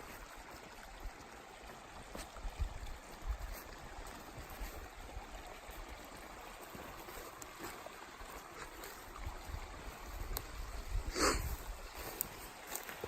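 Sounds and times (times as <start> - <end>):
water running in a canal: 0.0 - 13.0.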